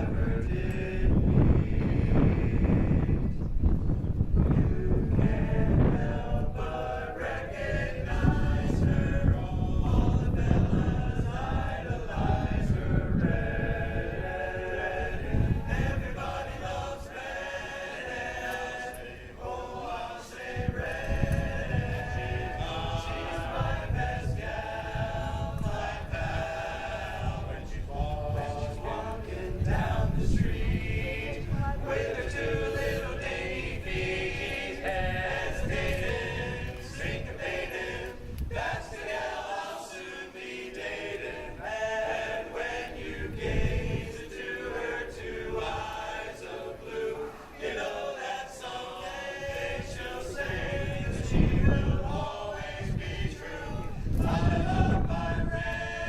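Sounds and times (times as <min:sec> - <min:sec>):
men's chorus singing a cappella: 0:00.0 - 0:03.5, 0:04.4 - 0:56.0.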